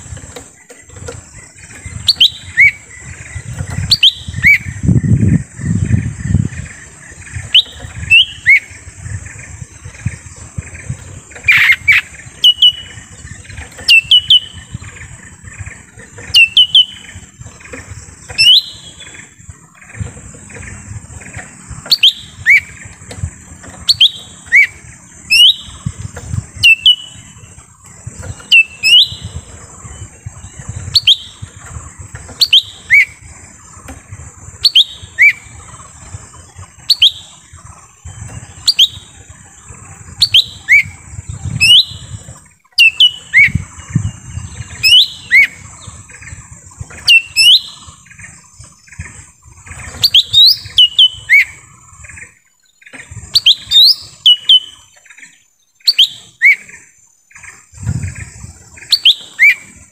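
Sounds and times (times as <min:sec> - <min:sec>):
uneven low rumble: 0:00.0 - 0:52.3
bird whistled calls: 0:01.4 - 0:33.6, 0:34.5 - 0:52.2, 0:52.8 - 0:59.9.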